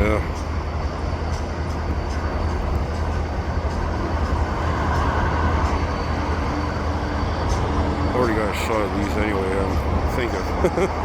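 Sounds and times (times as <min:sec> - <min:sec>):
diesel locomotives idling: 0:00.0 - 0:11.0.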